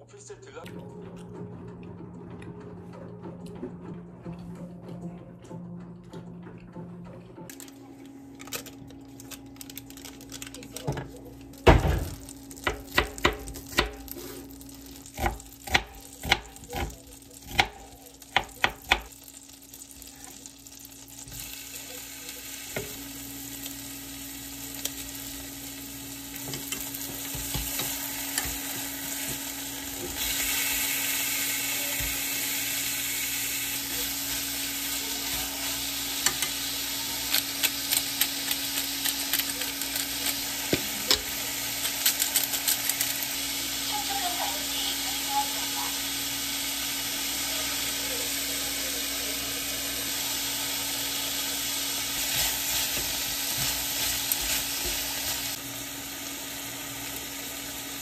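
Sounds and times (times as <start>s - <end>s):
food sizzling in a frying pan: 8.4s - 58.0s.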